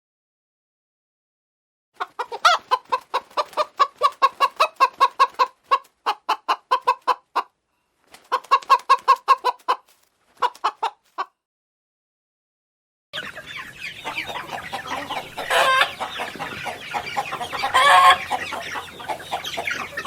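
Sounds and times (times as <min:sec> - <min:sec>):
chickens clucking: 0:02.0 - 0:11.4, 0:13.2 - 0:20.0.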